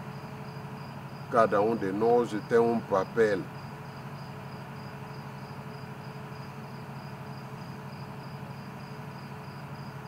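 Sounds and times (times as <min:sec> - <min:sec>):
cricket chirping: 0:00.0 - 0:10.0
steady low hum: 0:00.0 - 0:10.0.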